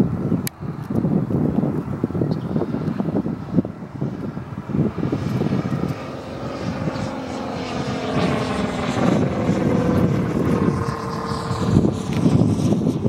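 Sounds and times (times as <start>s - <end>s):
model plane engine droning: 0.0s - 13.0s
wind buffeting microphone: 0.0s - 13.0s.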